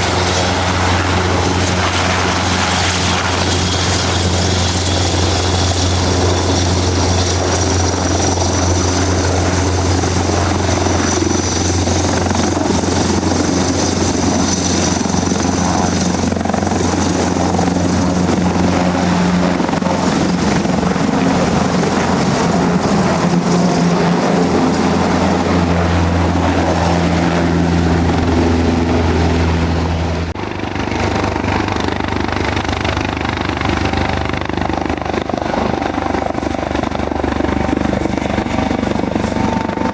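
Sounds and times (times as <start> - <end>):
helicopter rotor and engine whine: 0.0 - 39.9.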